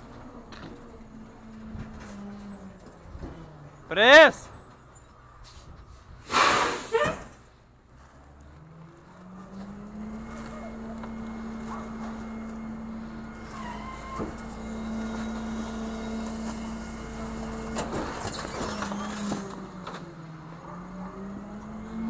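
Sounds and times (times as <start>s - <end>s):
garbage truck engine humming: 0.0s - 6.2s, 6.9s - 22.0s.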